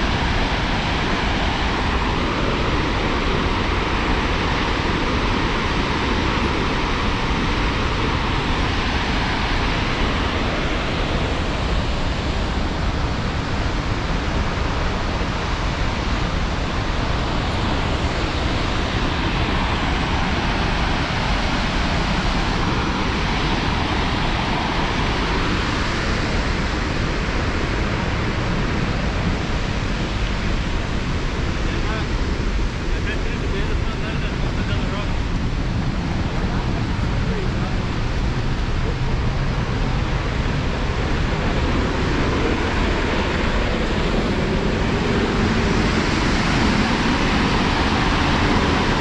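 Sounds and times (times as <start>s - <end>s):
loud steady rushing noise: 0.0s - 49.0s.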